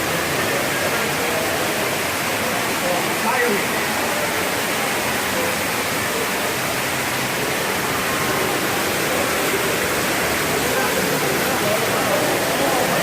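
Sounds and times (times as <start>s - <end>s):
faint voices: 0.0s - 13.0s
falling water rushing: 0.0s - 13.0s.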